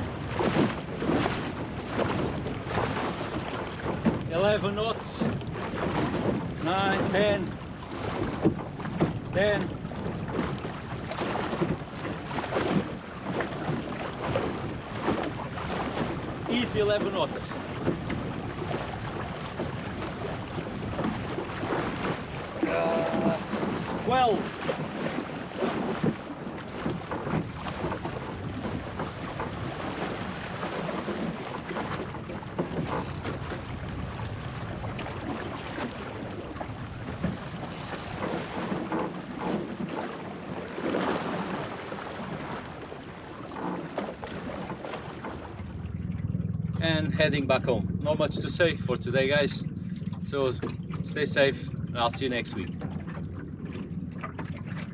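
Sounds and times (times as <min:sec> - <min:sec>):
wind buffeting microphone: 0:00.0 - 0:04.4, 0:05.0 - 0:54.9
water rushing along hull: 0:00.0 - 0:54.9.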